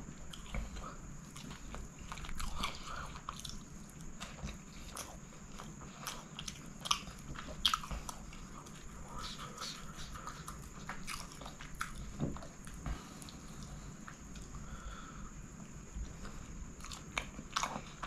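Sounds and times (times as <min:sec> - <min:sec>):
chewing food: 0:00.3 - 0:14.6, 0:16.0 - 0:18.0.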